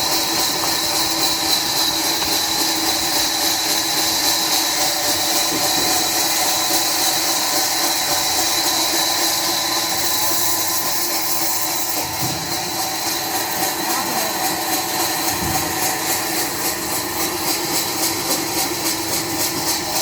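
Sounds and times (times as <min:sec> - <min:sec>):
sawmill saw machinery running: 0:00.0 - 0:20.0.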